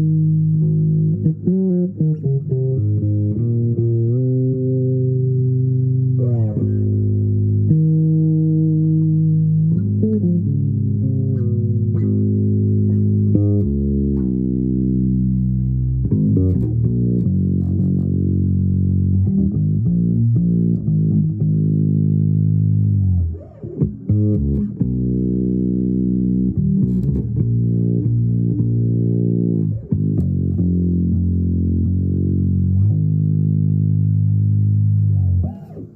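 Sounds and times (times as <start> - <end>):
bass guitar plucked notes: 0.0 - 35.9.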